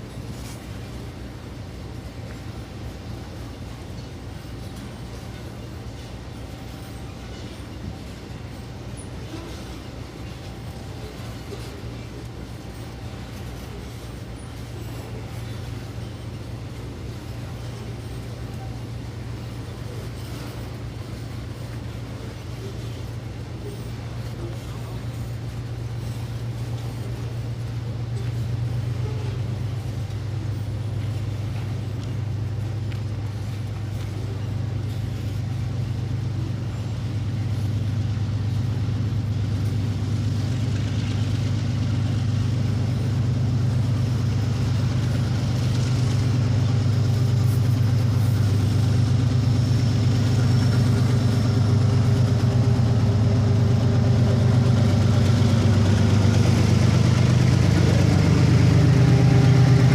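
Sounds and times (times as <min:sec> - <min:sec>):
diesel locomotive engine humming: 0:00.0 - 0:59.9.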